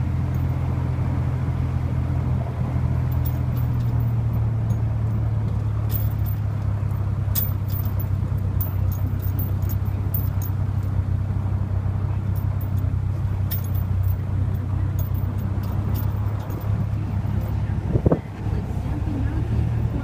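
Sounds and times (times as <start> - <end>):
vehicle engine low drone: 0.0 - 20.0.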